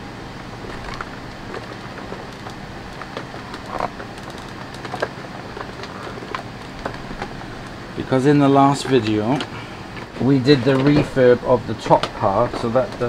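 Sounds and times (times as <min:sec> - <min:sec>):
air conditioner and fan hum: 0:00.0 - 0:13.0.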